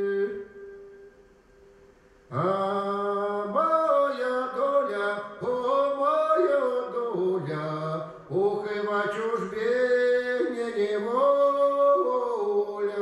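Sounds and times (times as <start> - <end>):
man singing: 0.0 - 0.8, 2.3 - 13.0.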